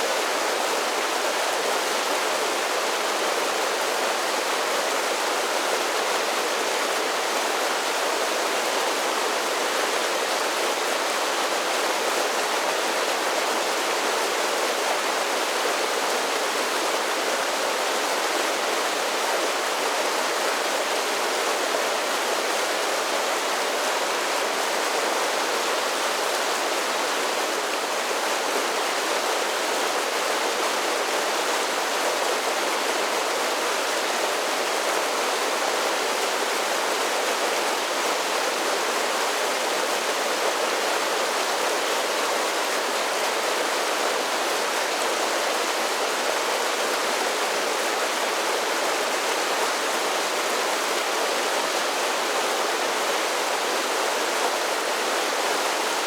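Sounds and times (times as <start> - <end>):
creek rushing over small falls: 0.0 - 56.0.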